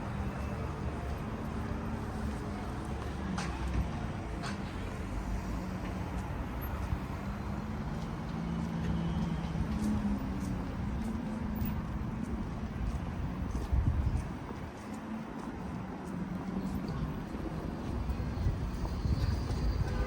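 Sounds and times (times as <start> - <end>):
low urban drone: 0.0 - 20.0.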